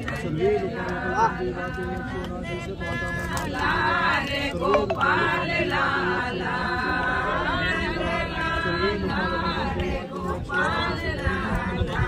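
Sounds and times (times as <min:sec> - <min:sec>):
group chanting mantras: 0:00.0 - 0:12.0.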